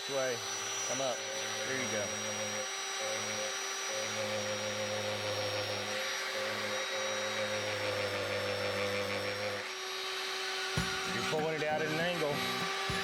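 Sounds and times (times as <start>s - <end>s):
electric drill drilling into wood: 0.0s - 13.0s.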